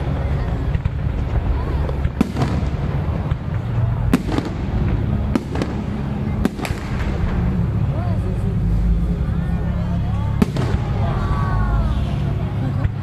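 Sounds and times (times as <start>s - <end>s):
fireworks bursting: 0.0s - 7.9s, 10.3s - 13.0s
steady low rumble: 0.0s - 13.0s.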